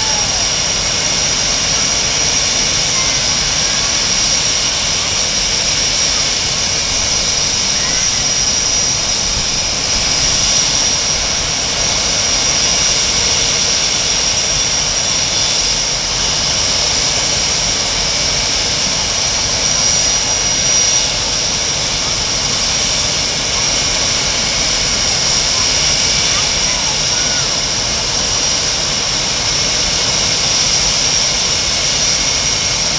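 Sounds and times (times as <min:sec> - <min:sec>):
jet engines idling: 0:00.0 - 0:32.9.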